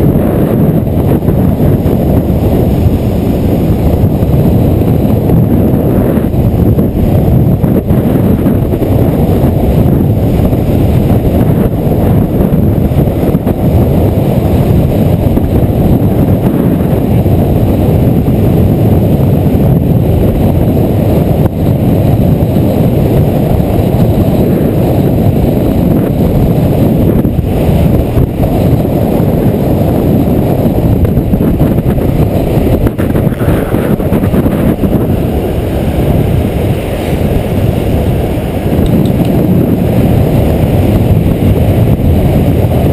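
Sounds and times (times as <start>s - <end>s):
skateboard wheels rolling on asphalt: 0.0s - 42.9s
wind buffeting microphone: 0.0s - 42.9s.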